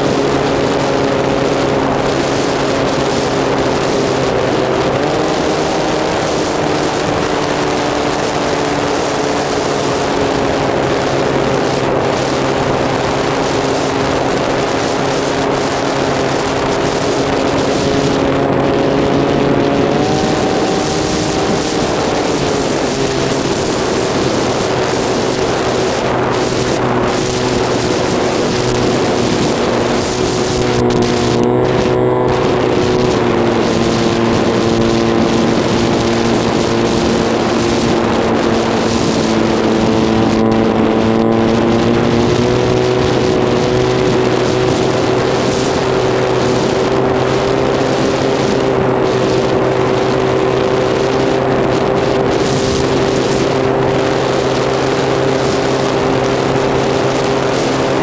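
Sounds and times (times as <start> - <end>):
model plane electric motor and propeller: 0.0 - 58.0
wind rushing over airframe: 0.0 - 58.0.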